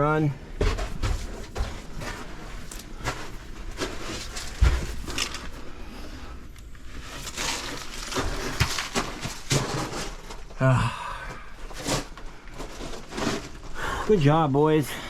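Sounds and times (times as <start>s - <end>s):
rustling: 0.6s - 10.6s, 11.6s - 13.8s.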